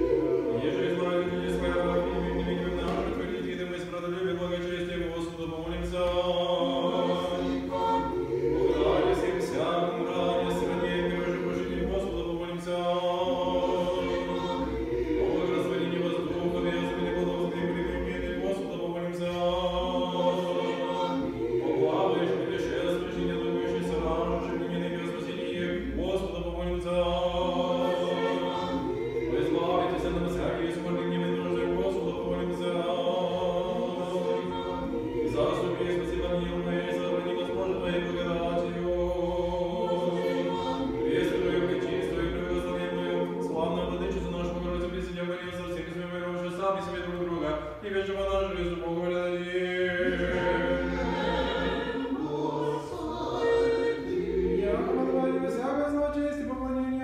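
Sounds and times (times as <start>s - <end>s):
unaccompanied choir chanting: 0.0s - 57.0s.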